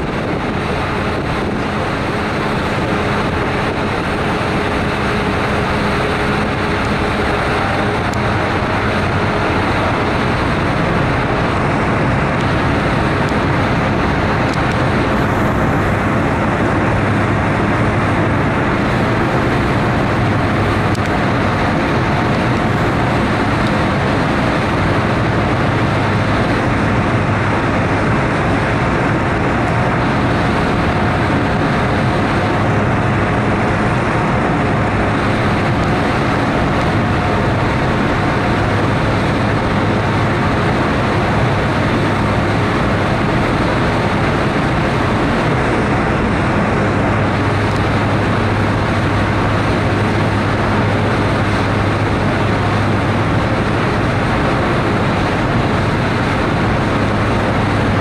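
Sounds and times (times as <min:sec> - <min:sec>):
low engine hum: 0:00.0 - 0:58.0
rushing noise: 0:00.0 - 0:58.0.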